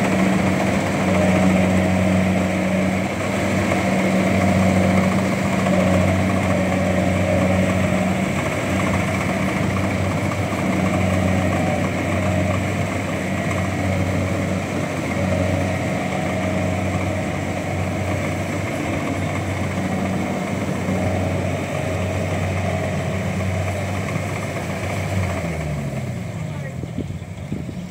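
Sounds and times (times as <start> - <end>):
harvester engine running: 0.0 - 27.9.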